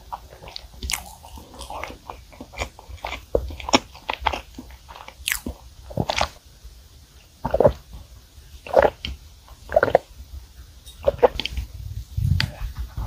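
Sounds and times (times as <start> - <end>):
person chewing cake: 0.0 - 6.4, 7.2 - 10.2, 10.9 - 12.9.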